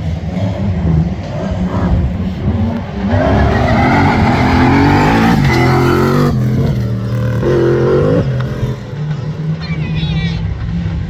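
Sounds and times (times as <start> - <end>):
racing car engine revving: 0.0 - 9.8.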